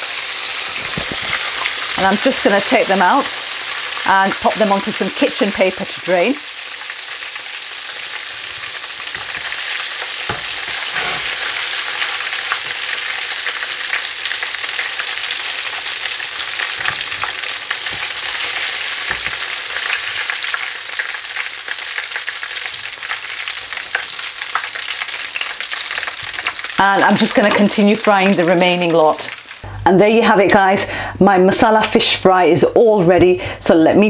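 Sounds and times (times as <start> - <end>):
fish deep-frying in oil: 0.0 - 29.7.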